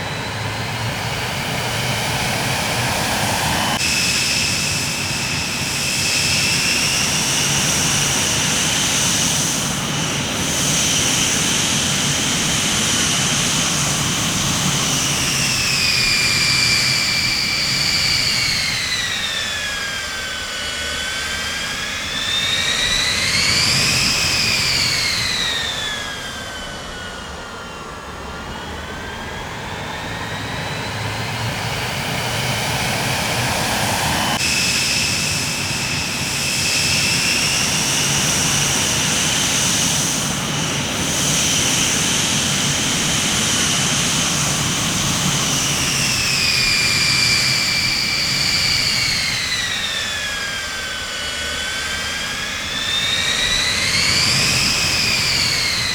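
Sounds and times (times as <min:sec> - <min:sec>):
jet engines whining: 0:00.0 - 0:55.9.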